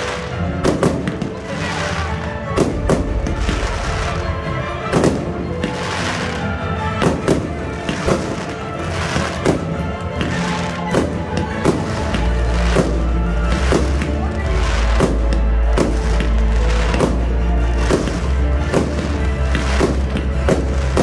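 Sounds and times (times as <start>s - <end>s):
fireworks bangs: 0.0s - 21.0s
fireworks crackling and hissing: 0.0s - 21.0s
music playing: 0.0s - 21.0s.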